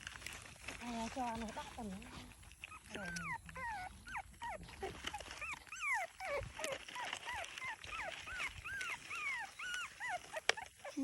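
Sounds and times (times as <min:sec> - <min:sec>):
young animals whimpering: 0:01.2 - 0:11.0.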